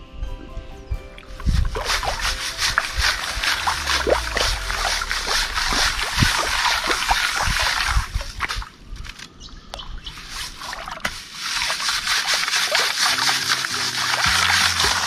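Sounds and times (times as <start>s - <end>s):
sieve sloshing in water: 1.4s - 8.7s, 10.2s - 15.0s.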